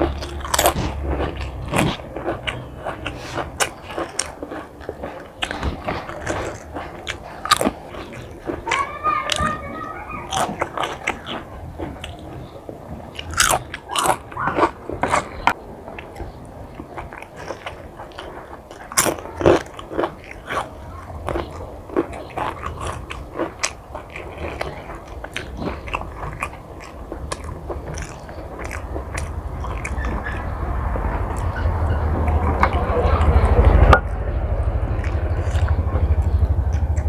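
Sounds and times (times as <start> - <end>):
crunching and chewing chip: 0.0 - 37.0.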